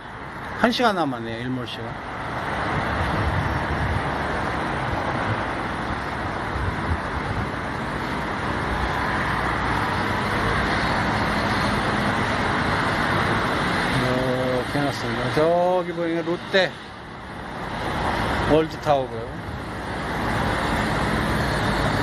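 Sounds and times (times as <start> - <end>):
cars passing on busy roads: 0.0 - 22.0.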